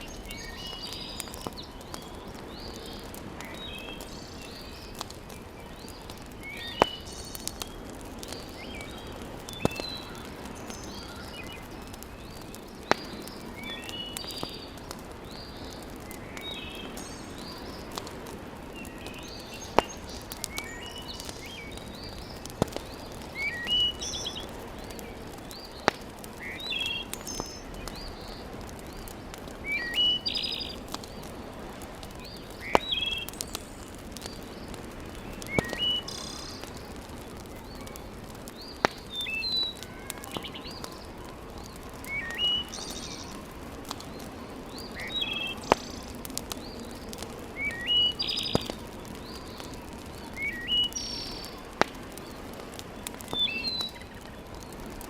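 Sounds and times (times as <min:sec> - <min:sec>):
wood fire popping: 0:00.0 - 0:55.0.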